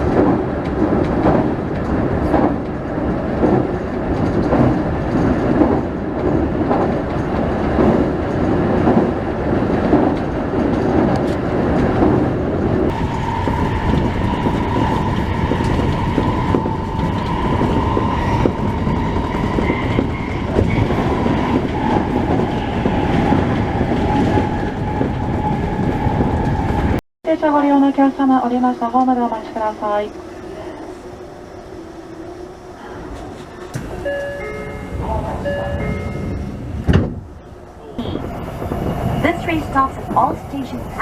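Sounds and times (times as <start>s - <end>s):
train wheels clicking on rail joints: 0.0s - 27.0s, 33.0s - 41.0s
train rumble: 0.0s - 41.0s.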